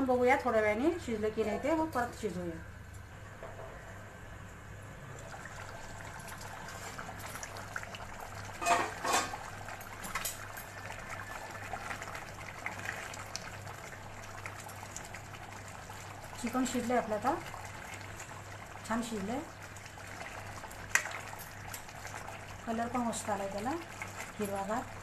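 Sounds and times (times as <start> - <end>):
gravy simmering and bubbling: 3.7 - 25.0.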